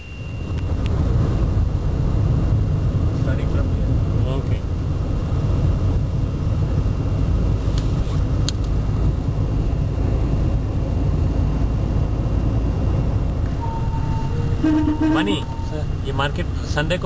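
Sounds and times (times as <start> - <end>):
car rumbling on the move: 0.0 - 17.0.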